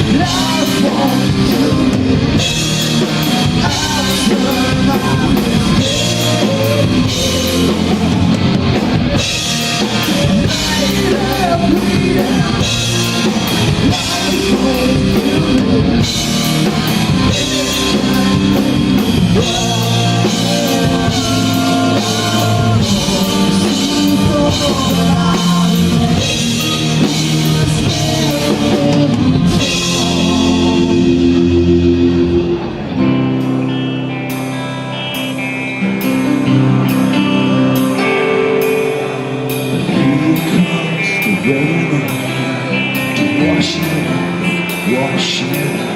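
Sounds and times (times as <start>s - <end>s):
bass guitar: 0.0s - 45.9s
drum kit: 0.0s - 45.9s
electric guitars: 0.0s - 45.9s.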